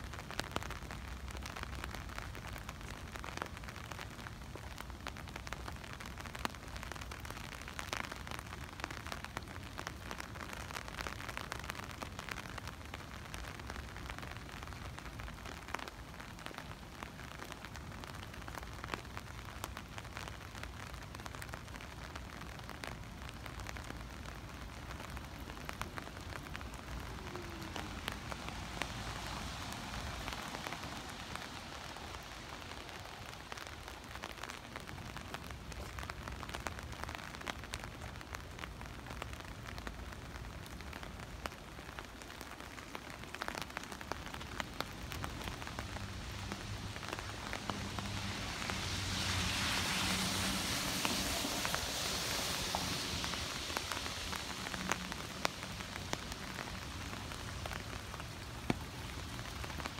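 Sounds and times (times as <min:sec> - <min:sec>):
heavy rain on street: 0:00.0 - 0:59.9.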